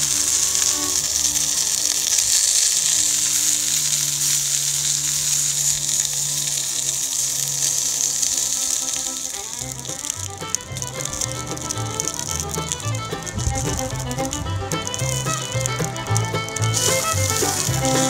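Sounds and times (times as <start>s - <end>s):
sausages sizzling on griddle: 0.0s - 18.0s.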